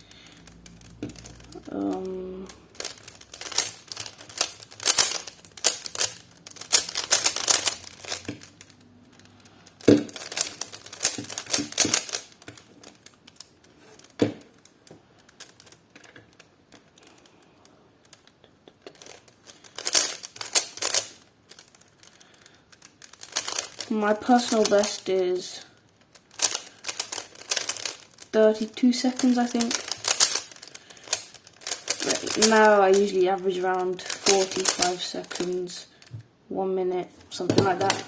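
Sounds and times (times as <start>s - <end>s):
plastic puzzle cube clicking turns: 0.0s - 36.3s, 37.2s - 38.0s.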